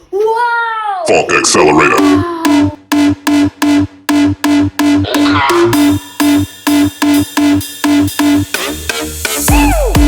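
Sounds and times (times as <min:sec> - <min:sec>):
electronic dance music: 0:01.3 - 0:10.0.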